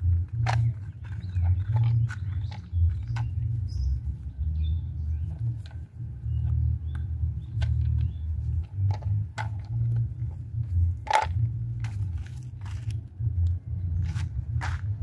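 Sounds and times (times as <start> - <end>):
constant low rumble: 0.0 - 15.0.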